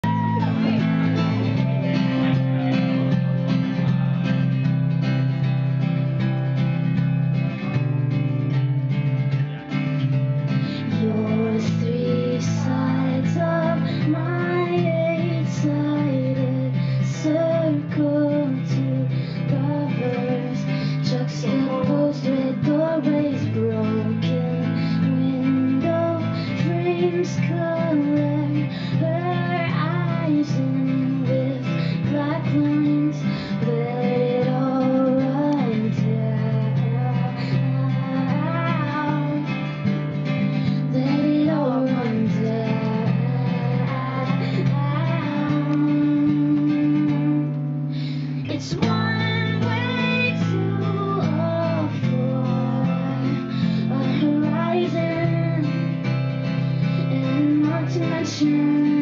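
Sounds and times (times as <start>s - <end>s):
woman singing: 0.0s - 4.6s, 10.5s - 59.0s
strummed acoustic guitar: 0.0s - 59.0s.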